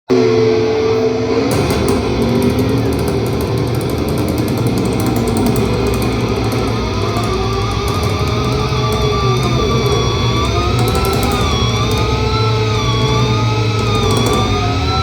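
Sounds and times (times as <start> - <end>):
distorted electric guitars: 0.1 - 15.0
drums and cymbals crashing: 1.5 - 15.0.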